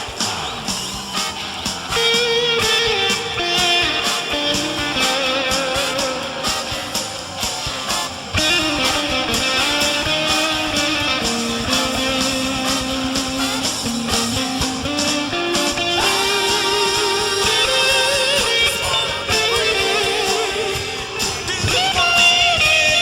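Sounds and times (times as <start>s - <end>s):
instrumental band with guitars: 0.0s - 23.0s.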